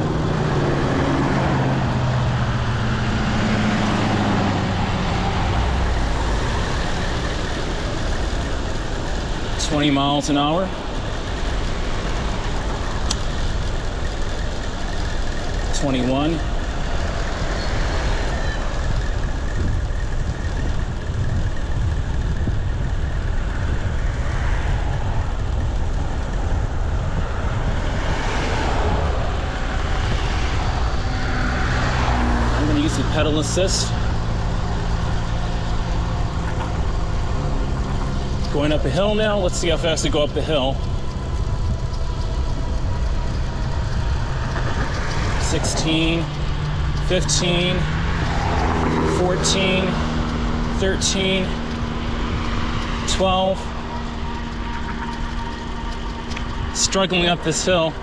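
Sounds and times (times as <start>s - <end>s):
motor vehicle drone: 0.0s - 58.0s
wind rushing over microphone: 0.0s - 58.0s.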